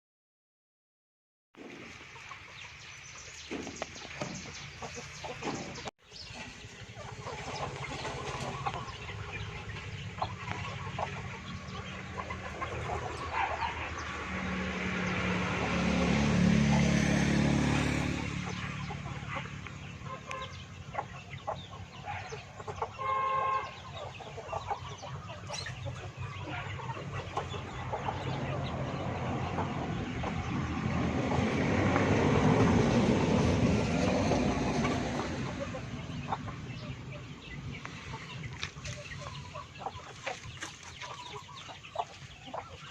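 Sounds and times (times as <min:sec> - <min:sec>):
chickens clucking: 0:01.6 - 0:42.9.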